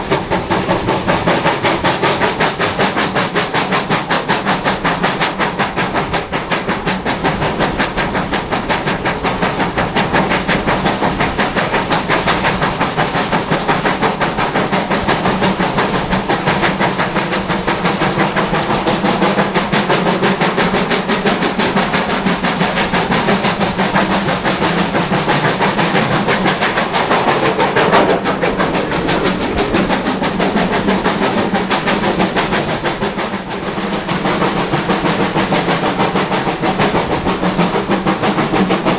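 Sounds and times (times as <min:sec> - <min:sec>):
carriages running on rails: 0:00.0 - 0:38.9
steam locomotive exhaust beat: 0:00.0 - 0:38.9.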